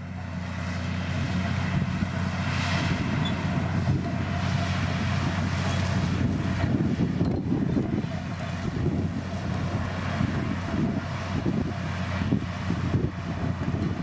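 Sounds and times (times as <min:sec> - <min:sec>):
bulldozer diesel engine drone: 0:00.0 - 0:14.0.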